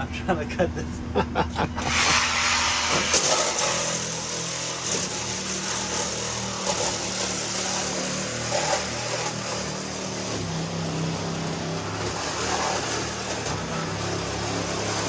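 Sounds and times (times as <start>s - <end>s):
hiss of cutting: 1.8s - 15.0s
power tool motor hum: 1.8s - 15.0s.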